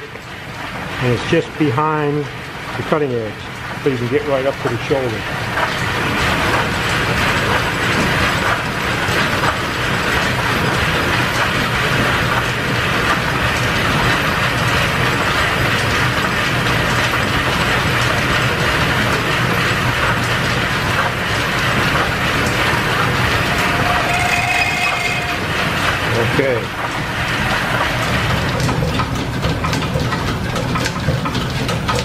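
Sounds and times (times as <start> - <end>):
metal lathe clattering: 0.0 - 32.0.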